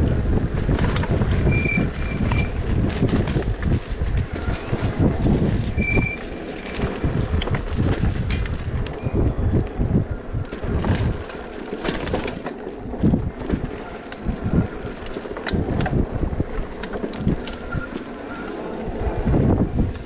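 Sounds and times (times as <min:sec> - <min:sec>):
sharp clicks and rattles: 0:00.0 - 0:09.7, 0:10.4 - 0:19.1
wind buffeting microphone: 0:00.0 - 0:20.0.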